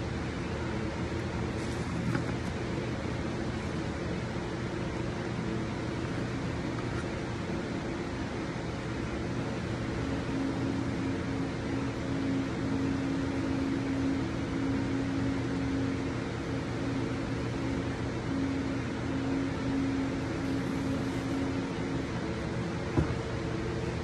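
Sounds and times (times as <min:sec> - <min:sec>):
potter's wheel motor hum: 0:00.0 - 0:24.0.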